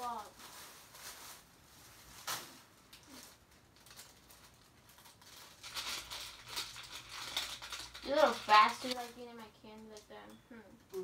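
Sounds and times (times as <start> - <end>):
plastic wrapper crinkling: 0.0 - 10.1.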